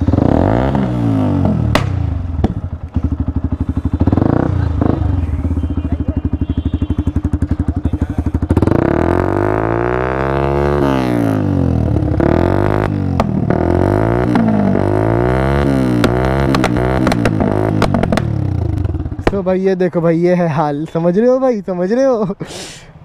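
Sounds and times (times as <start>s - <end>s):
exhaust bang: 0.0s - 19.8s
motorcycle engine idling and revving: 0.0s - 23.0s.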